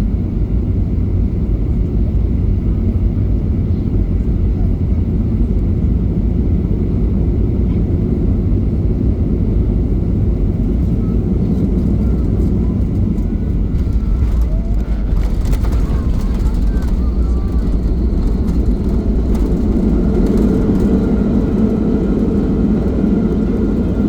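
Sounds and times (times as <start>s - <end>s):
airplane engine and airflow rumble: 0.0s - 24.0s.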